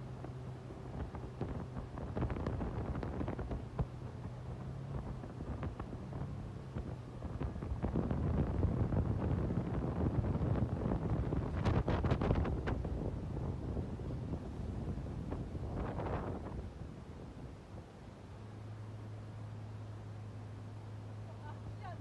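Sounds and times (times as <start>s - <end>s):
wind buffeting microphone: 0.0s - 18.1s
motorboat engine drone: 0.0s - 22.0s.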